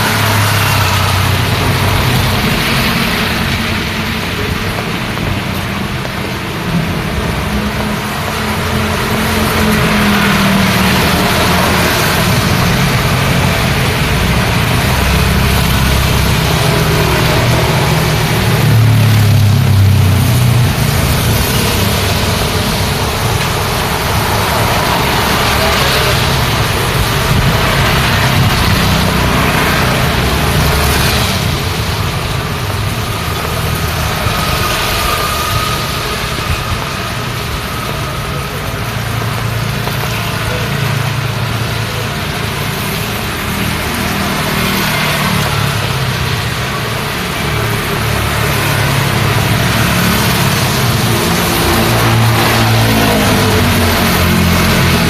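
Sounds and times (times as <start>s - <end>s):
car and motorbike engines passing: 0.0s - 55.0s
loud vehicle passing: 0.0s - 55.0s
rain and wet tyres hissing: 0.0s - 55.0s.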